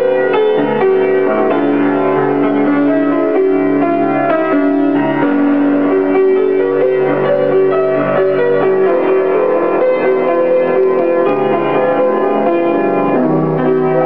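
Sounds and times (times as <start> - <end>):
solo piano playing chords: 0.0 - 14.0.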